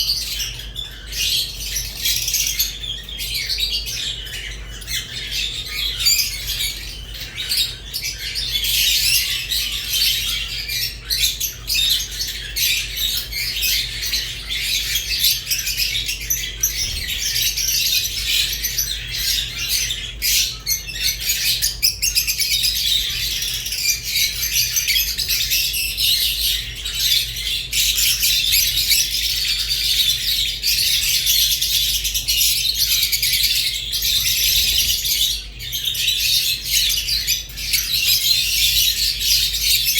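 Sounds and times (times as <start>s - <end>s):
lovebirds twittering and chirping: 0.0s - 39.9s.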